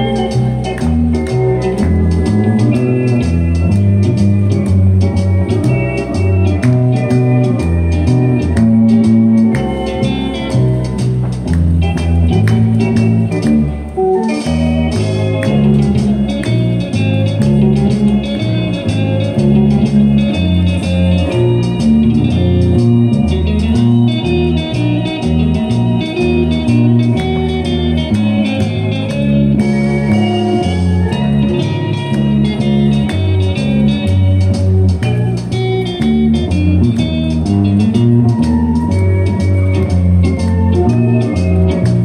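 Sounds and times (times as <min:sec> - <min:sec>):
guitar: 0:00.0 - 0:42.0
steady beat: 0:00.0 - 0:42.0
walking bass line: 0:00.0 - 0:42.0.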